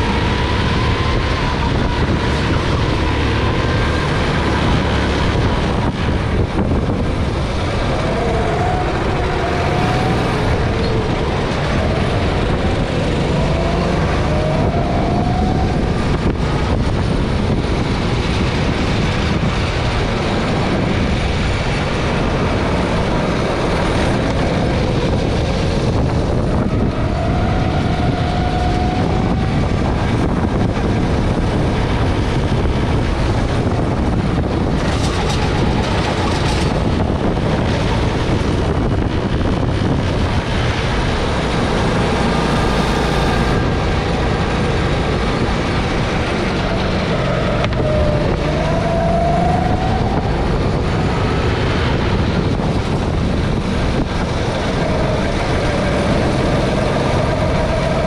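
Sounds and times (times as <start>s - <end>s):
go-kart engine droning: 0.0s - 58.0s.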